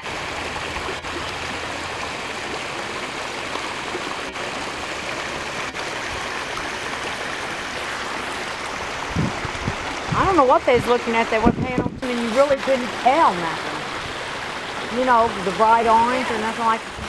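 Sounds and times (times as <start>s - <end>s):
waterfall splashing into pond: 0.0s - 17.0s.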